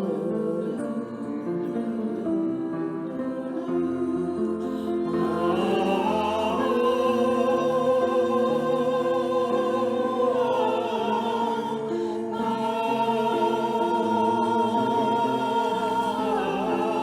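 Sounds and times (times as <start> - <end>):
held accompaniment chords: 0.0 - 17.0
singing with vibrato: 0.0 - 17.0.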